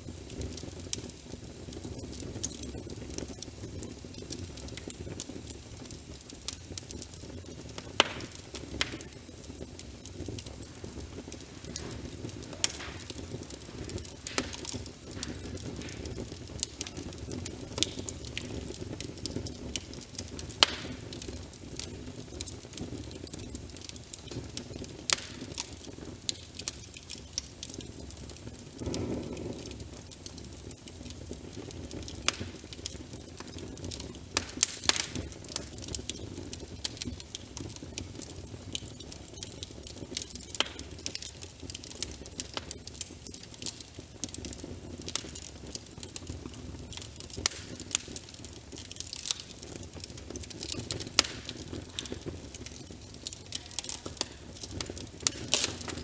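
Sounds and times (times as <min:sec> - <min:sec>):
rain pattering: 0:00.0 - 0:56.0
wood fire crackling: 0:00.0 - 0:56.0.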